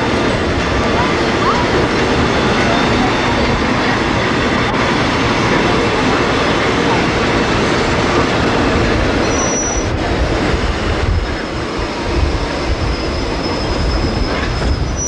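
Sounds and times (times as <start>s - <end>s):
train rumbling past: 0.0s - 15.0s
wheels squealing on rails: 0.0s - 15.0s.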